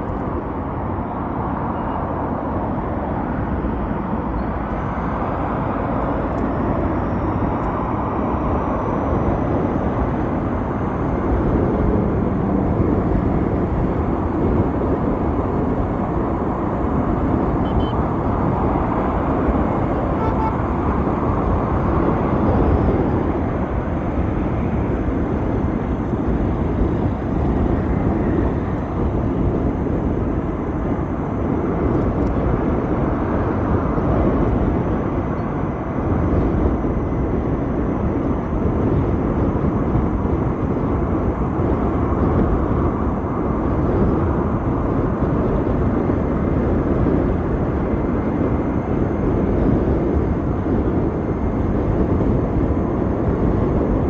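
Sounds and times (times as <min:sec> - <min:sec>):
road rumble: 0:00.0 - 0:54.0
wind: 0:00.0 - 0:54.0.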